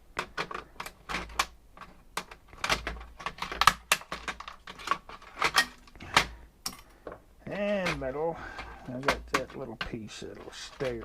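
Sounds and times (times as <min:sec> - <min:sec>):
plastic and metal parts clicking: 0:00.1 - 0:11.0.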